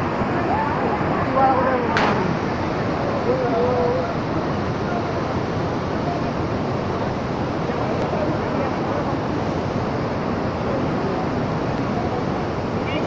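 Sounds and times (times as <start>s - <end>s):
stormy weather rushing: 0.0s - 13.0s.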